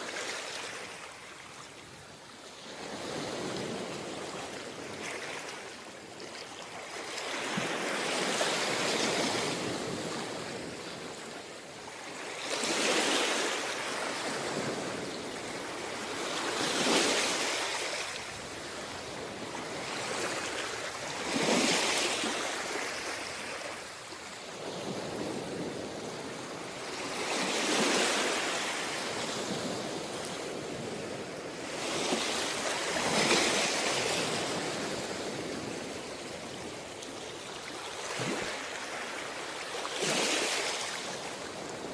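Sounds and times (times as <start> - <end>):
waves breaking on shore: 0.0 - 41.9.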